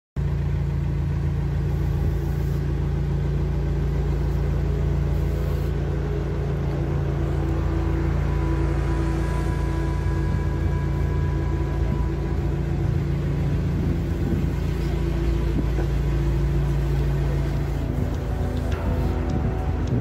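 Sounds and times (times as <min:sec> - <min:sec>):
diesel engine rumbling: 0:00.2 - 0:20.0.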